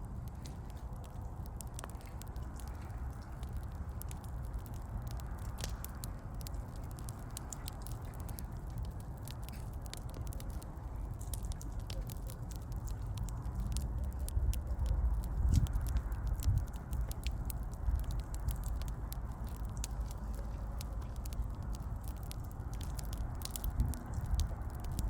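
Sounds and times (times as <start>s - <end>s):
low fire rumble: 0.0s - 25.0s
wood fire crackling: 0.0s - 25.0s.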